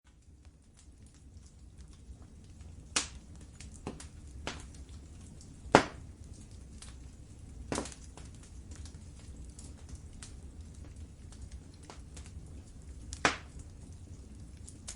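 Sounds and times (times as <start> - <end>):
wood fire crackling: 0.1 - 14.9.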